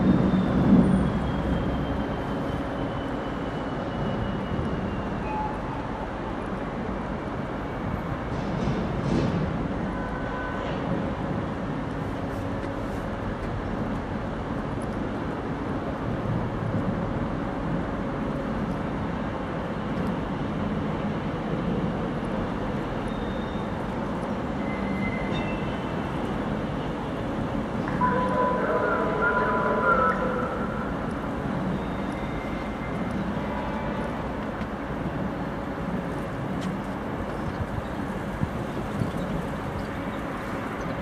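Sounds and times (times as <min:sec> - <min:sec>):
train passing: 0:00.0 - 0:13.4, 0:15.4 - 0:41.0.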